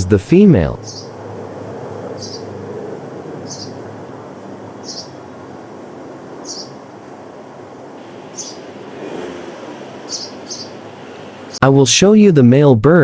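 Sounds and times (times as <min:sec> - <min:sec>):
sparrow chirping: 0:00.0 - 0:11.6
steady background noise: 0:00.0 - 0:11.6.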